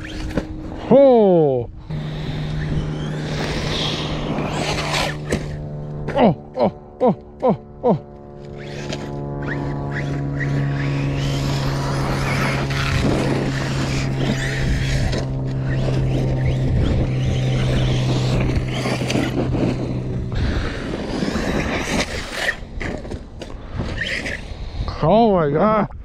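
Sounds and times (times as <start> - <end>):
electric motor hum: 0.0 - 24.9
tyres on dirt and gravel: 1.8 - 6.3, 8.1 - 24.8.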